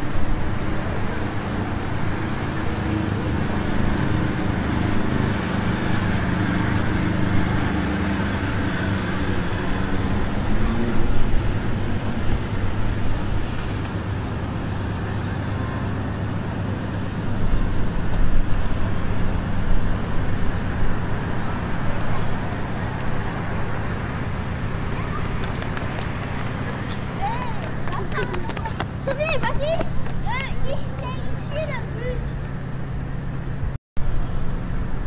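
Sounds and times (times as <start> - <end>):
cars passing: 0.0 - 35.0
low engine drone: 0.0 - 35.0.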